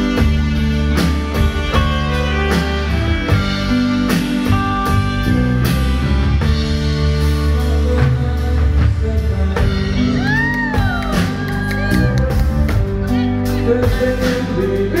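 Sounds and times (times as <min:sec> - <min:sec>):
bass guitar: 0:00.0 - 0:15.0
drum kit beat: 0:00.0 - 0:15.0.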